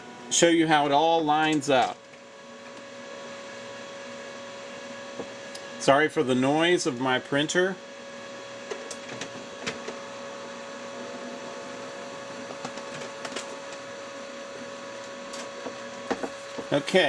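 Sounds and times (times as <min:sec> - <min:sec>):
office printer humming: 0:00.0 - 0:17.0.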